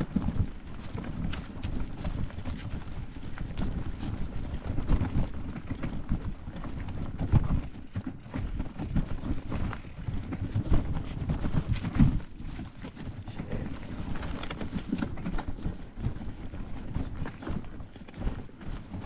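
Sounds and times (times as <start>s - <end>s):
bike rattles and knocks: 0.0s - 19.0s
wind buffeting microphone: 0.0s - 19.0s.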